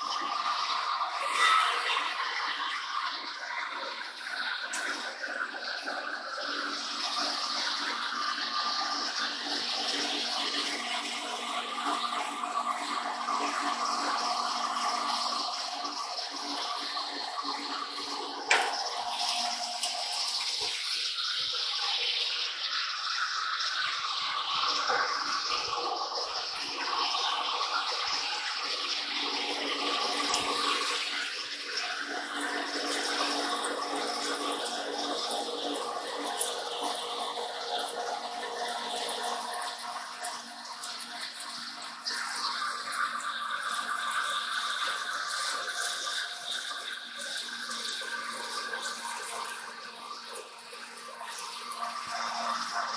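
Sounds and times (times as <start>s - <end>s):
coolant spraying and splashing: 0.0s - 52.9s.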